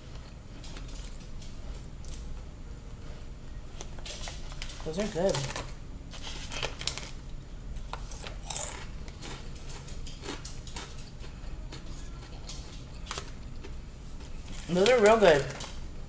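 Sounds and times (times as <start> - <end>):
chewing crunchy chips: 0.0 - 2.5, 3.8 - 16.0.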